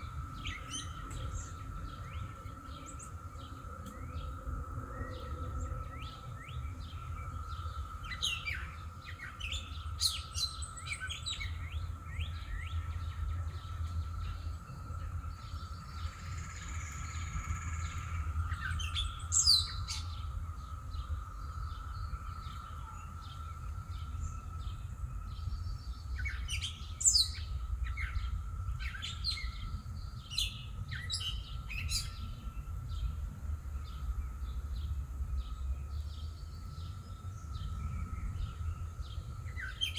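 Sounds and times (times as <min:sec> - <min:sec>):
low background rumble: 0:00.0 - 0:39.9
songbirds chirping: 0:00.0 - 0:39.9.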